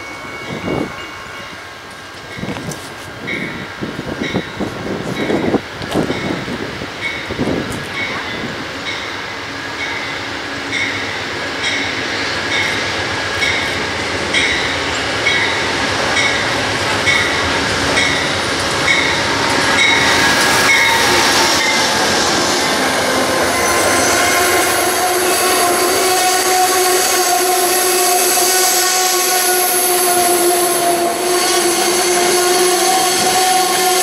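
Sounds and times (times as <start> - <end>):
railroad crossing bell dinging: 0.0 - 22.0, 22.6 - 28.4
passenger train running past: 0.0 - 34.0
steady ringing tones of train cars: 0.0 - 34.0.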